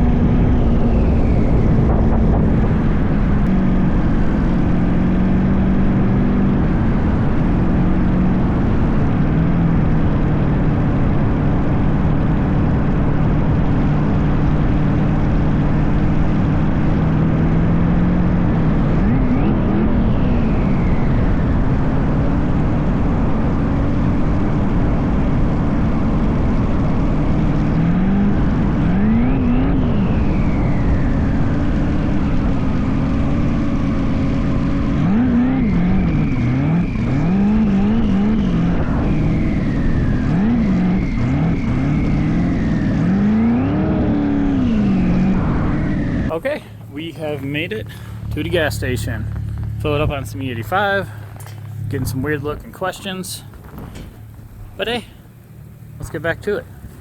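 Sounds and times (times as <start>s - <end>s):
engine revving: 0.0s - 57.0s
race car engine droning: 0.0s - 57.0s.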